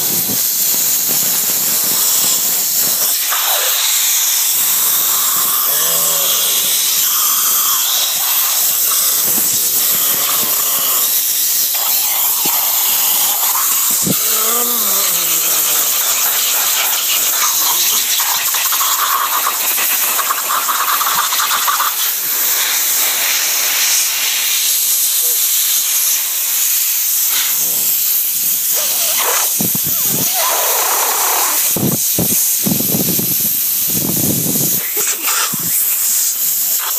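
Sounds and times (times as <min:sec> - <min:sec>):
compressed air blow gun hissing: 0:00.0 - 0:36.9.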